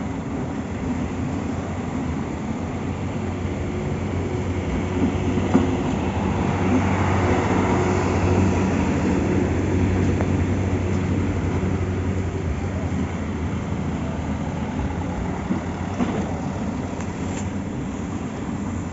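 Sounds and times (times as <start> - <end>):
diesel engines humming: 0.0 - 18.9.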